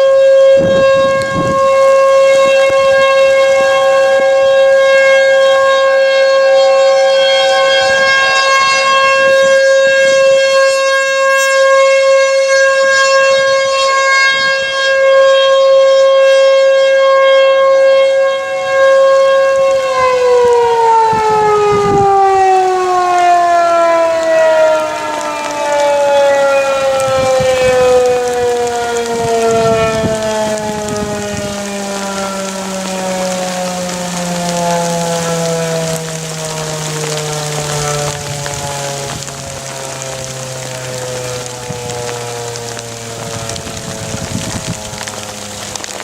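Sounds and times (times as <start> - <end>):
warning siren winding down: 0.0 - 46.0.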